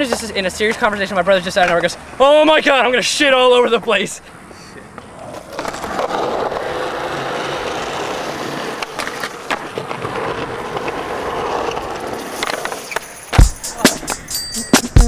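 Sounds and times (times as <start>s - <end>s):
skateboard wheels rolling on concrete: 0.0s - 14.2s.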